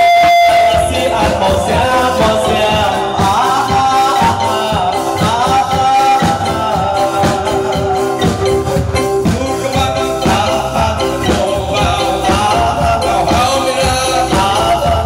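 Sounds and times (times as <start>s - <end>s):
music with percussion beat: 0.0s - 15.0s.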